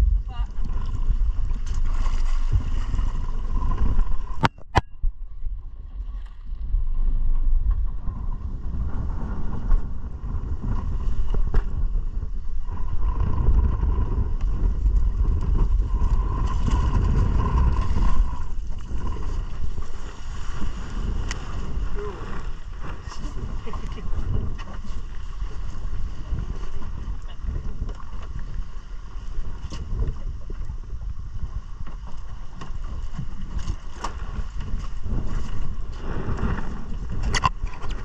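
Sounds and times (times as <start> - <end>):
small boat at sea: 0.0 - 38.0
wind rumbling on microphone: 0.0 - 38.0.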